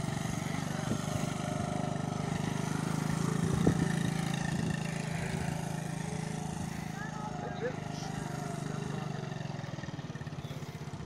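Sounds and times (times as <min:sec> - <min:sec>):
small engine running at low speed: 0:00.0 - 0:11.0.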